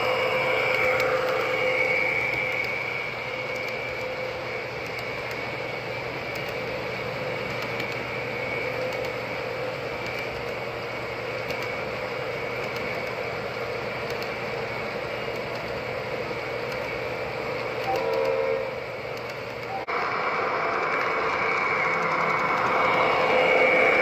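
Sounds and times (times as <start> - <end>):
faint whining tones: 0.0 - 24.0
model train wheels rumbling: 0.0 - 24.0.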